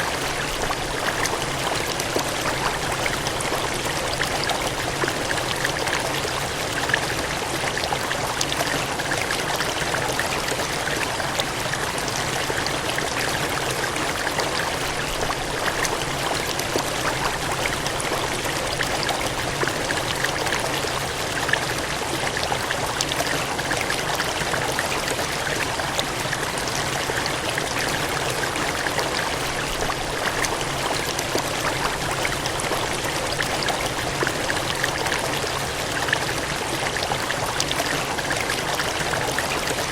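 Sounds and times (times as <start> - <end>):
cascading water rushing: 0.0 - 39.9.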